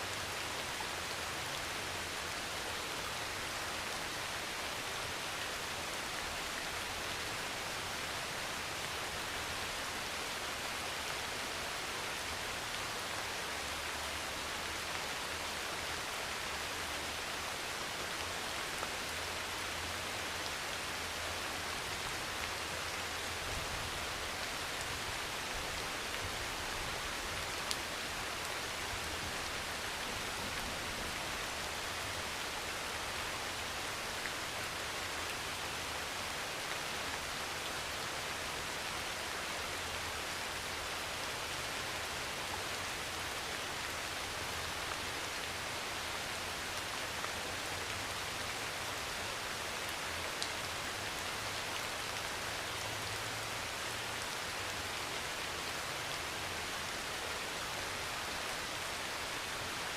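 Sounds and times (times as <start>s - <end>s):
heavy rain on a metal roof: 0.0s - 59.9s.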